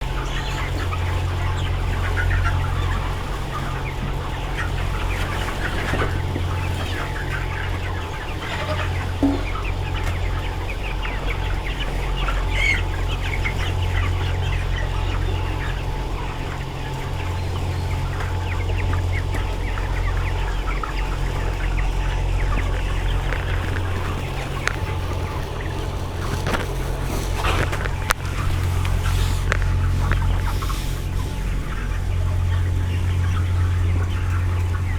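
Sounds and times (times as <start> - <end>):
chickens clucking and calling: 0.0 - 34.9
steady low hum: 0.0 - 34.9.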